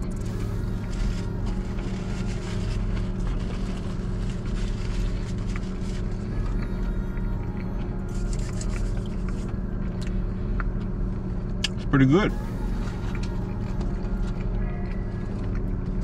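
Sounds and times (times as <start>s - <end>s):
car engine idling: 0.0s - 16.0s
chewing food: 1.6s - 16.0s.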